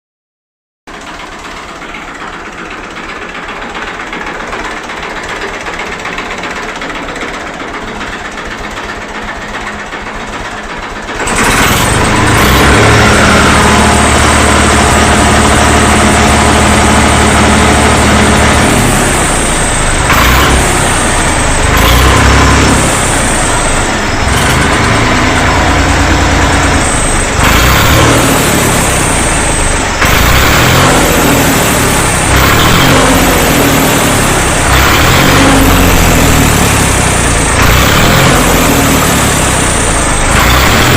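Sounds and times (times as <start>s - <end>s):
tractor engine running: 0.9s - 40.9s.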